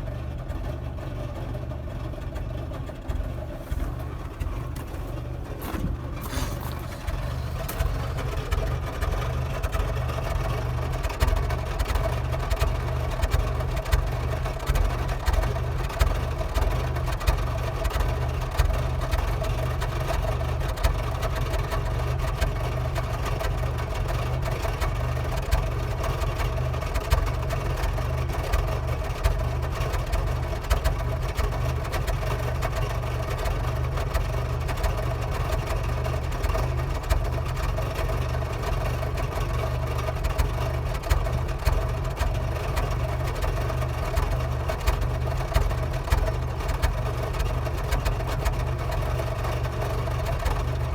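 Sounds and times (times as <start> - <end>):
diesel engine idling roughly: 0.0 - 50.9.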